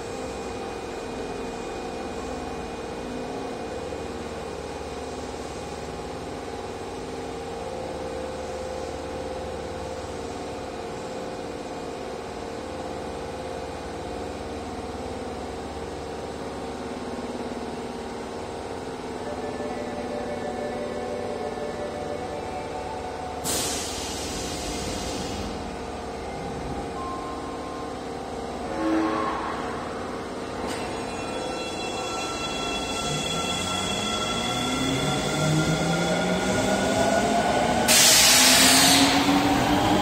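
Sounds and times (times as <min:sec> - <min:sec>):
subway train equipment humming: 0:00.0 - 0:40.0.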